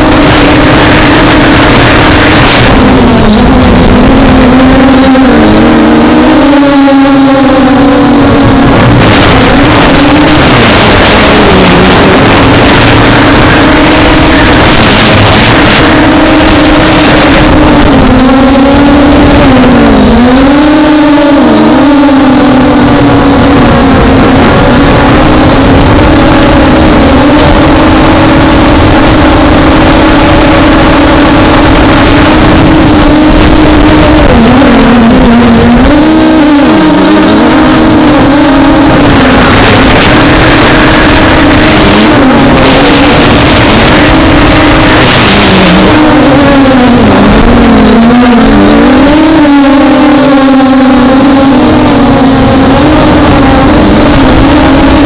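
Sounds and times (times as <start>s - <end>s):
drone motors humming: 0.0s - 55.0s
wind buffeting microphone: 0.0s - 55.0s.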